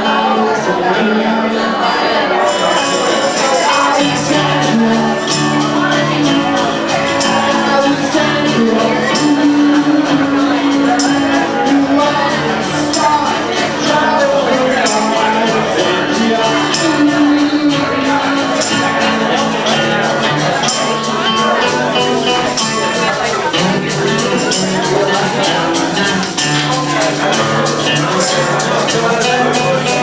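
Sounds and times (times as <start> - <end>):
strummed acoustic chords: 0.0 - 30.0.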